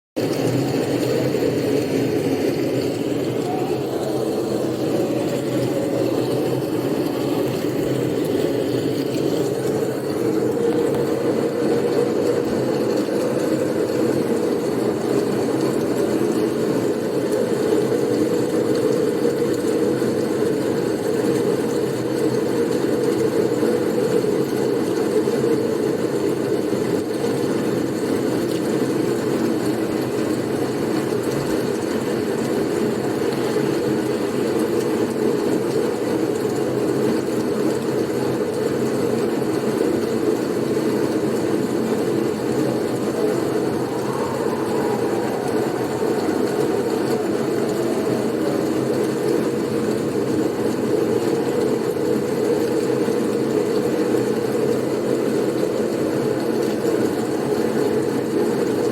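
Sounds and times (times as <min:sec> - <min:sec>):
blizzard wind: 0:00.3 - 0:58.9.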